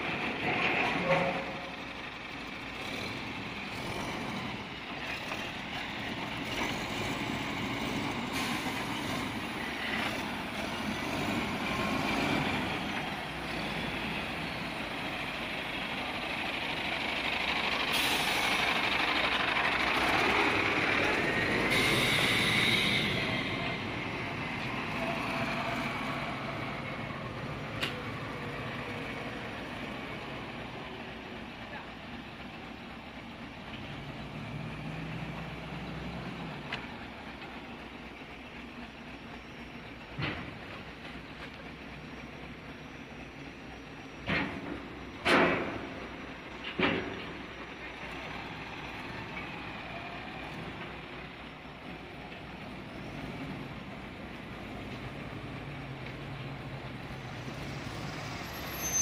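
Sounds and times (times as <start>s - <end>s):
truck engine running: 0.0s - 58.8s.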